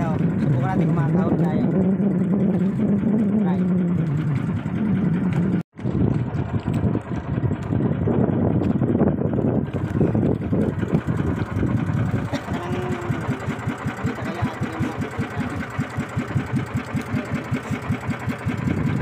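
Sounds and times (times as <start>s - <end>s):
small boat engine putting: 0.0s - 19.0s.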